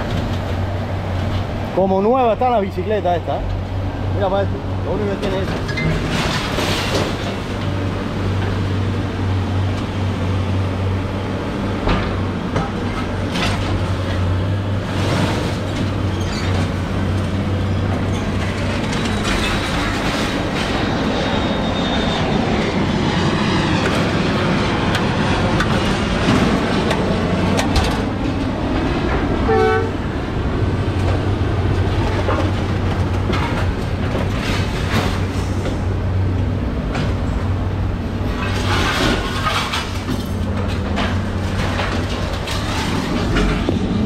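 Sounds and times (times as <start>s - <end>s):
heavy machinery engine rumble: 0.0s - 44.0s.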